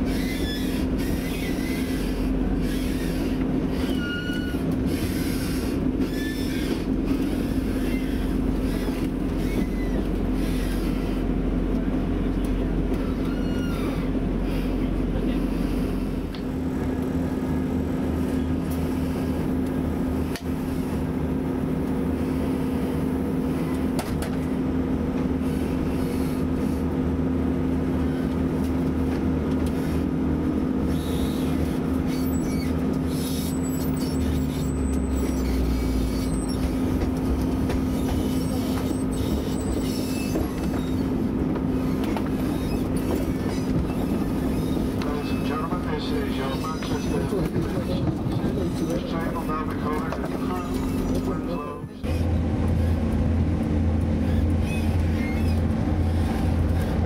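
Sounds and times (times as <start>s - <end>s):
train engine drone: 0.0s - 57.0s
wheels rumbling on rail: 0.0s - 57.0s.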